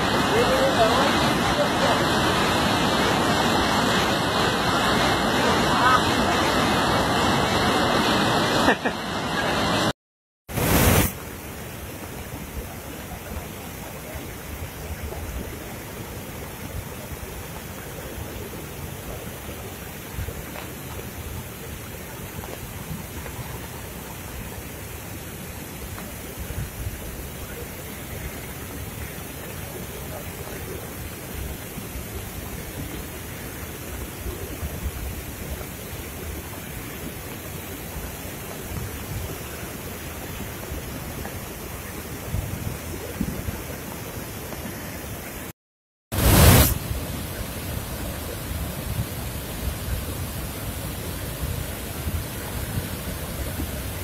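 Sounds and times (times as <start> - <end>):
river water rushing through rapids: 0.0 - 9.9, 10.5 - 45.5, 46.2 - 54.0.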